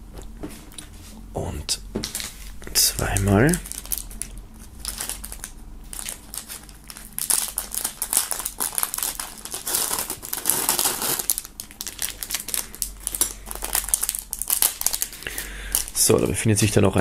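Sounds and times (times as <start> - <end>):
plastic bag crinkling: 2.0 - 17.0.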